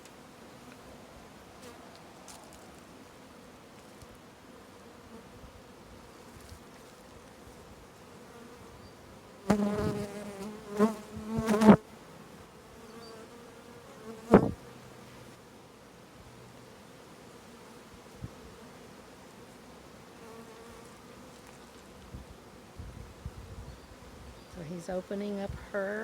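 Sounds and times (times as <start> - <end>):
swarm of bees buzzing: 2.4 - 26.0
bee buzzing close to microphone: 3.1 - 15.6, 16.6 - 26.0.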